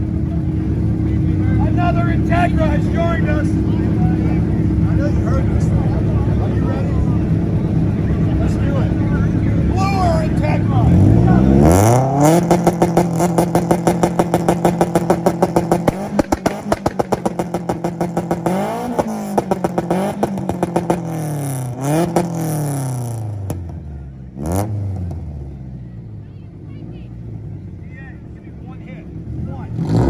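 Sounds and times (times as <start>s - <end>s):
rapid exhaust popping: 0.0s - 25.6s
car engine on rev limiter: 0.0s - 25.9s, 28.4s - 30.0s
car engine revving: 0.0s - 30.0s.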